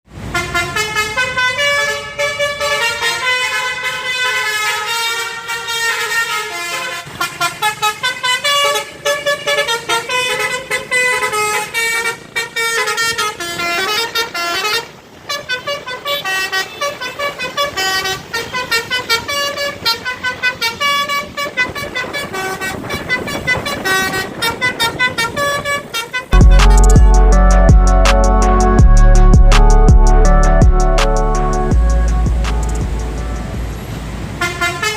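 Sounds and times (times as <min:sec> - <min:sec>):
bus horn playing a fast tune: 0:00.2 - 0:33.8, 0:34.4 - 0:34.9.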